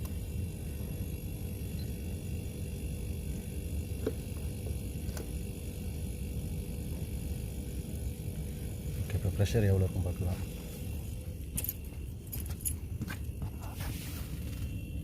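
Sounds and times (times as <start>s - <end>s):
refrigeration compressor humming: 0.0s - 15.0s.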